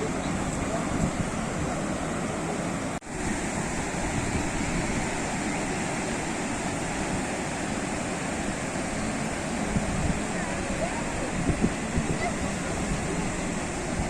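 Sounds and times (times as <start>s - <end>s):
waves breaking: 0.0s - 14.0s.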